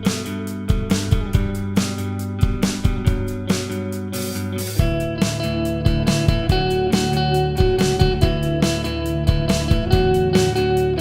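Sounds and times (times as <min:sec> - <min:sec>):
drum beat: 0:00.0 - 0:11.0
pop music guitar: 0:00.0 - 0:11.0.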